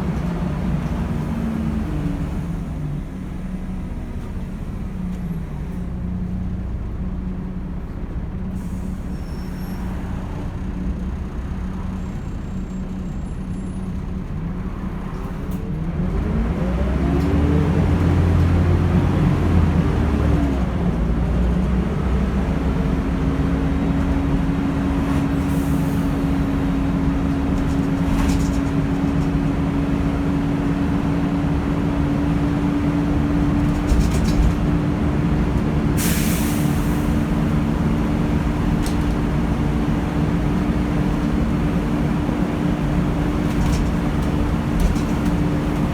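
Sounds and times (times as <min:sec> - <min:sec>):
bus diesel engine pulling away: 0:00.0 - 0:45.9.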